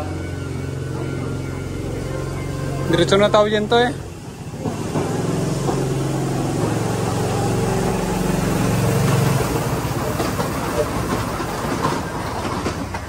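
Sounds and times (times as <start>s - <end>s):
vehicle motor humming: 0.0s - 13.0s.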